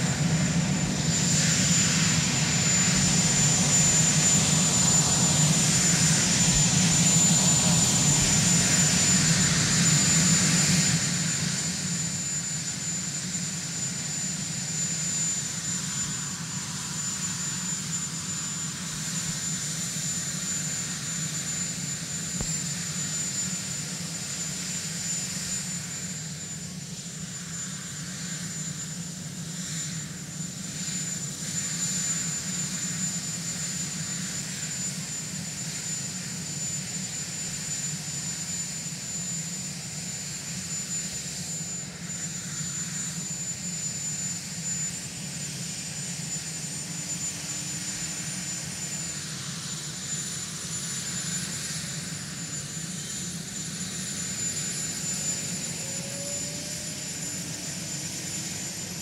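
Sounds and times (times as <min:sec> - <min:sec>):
helicopter low drone: 0:00.0 - 0:59.0
high-pitched whine: 0:00.0 - 0:59.0.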